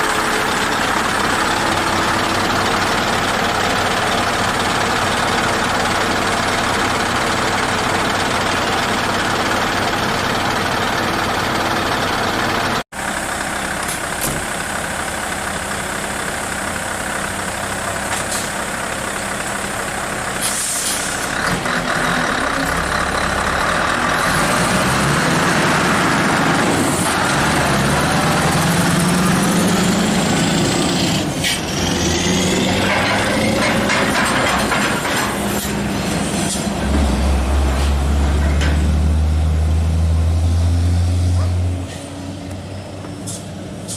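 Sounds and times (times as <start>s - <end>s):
diesel truck engine under load: 0.0s - 43.9s.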